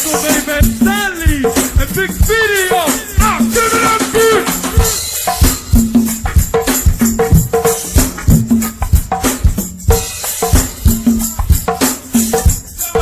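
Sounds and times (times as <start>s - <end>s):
drum kit and hand percussion: 0.0s - 13.0s.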